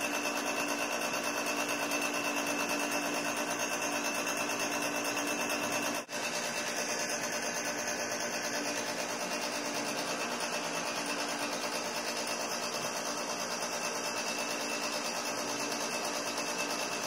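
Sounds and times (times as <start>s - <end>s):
steady mechanical whir: 0.0s - 17.0s.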